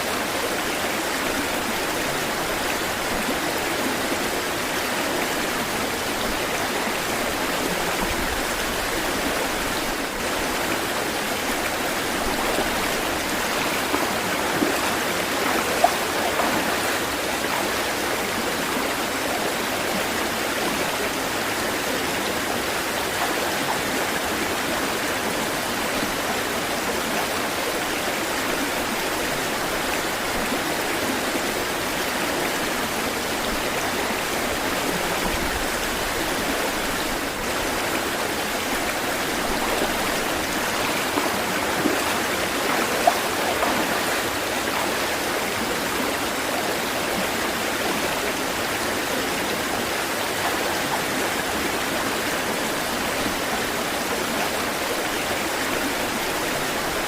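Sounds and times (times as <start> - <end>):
water splashes: 0.0 - 21.6, 22.4 - 57.0
stream flowing: 0.0 - 57.0.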